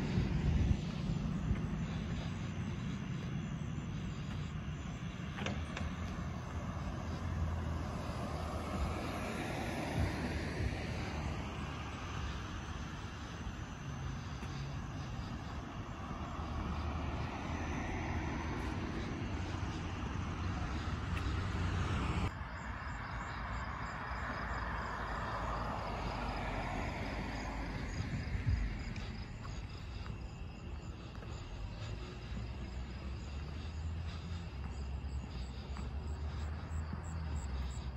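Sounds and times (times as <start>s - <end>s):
cars passing: 0.0s - 37.9s
low traffic rumble: 0.0s - 37.9s.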